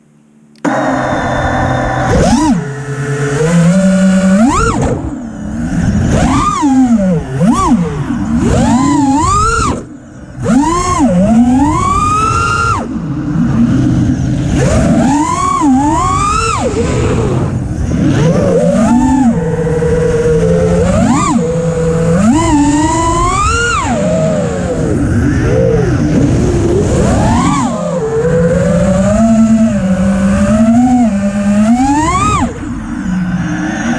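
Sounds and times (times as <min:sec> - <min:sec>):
quadcopter motors whining: 0:00.6 - 0:33.9.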